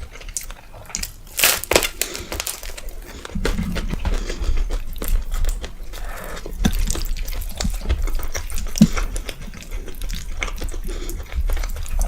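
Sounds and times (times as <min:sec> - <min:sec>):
mouth smacks and clicks: 0:00.0 - 0:12.0
wet chewing and mouth sounds: 0:00.0 - 0:12.0.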